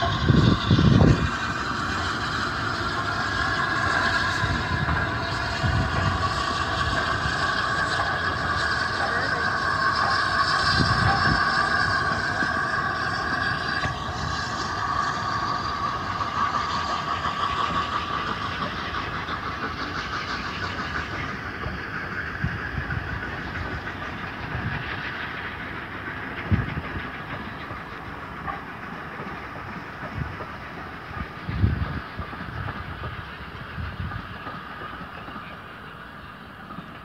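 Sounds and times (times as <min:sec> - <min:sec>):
train coaches rolling: 0:00.0 - 0:37.0.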